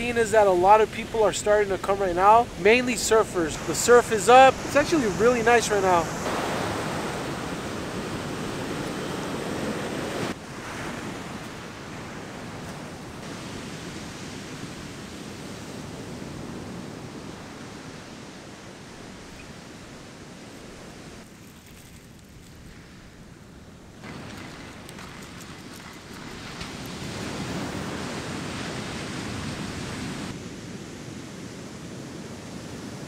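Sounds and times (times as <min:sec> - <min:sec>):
ocean surf breaking: 0:00.0 - 0:21.2, 0:22.6 - 0:33.0.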